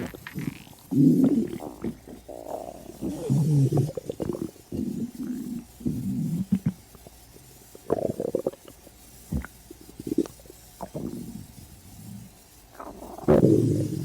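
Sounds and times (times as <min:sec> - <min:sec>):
stomach growling: 0:00.0 - 0:14.0.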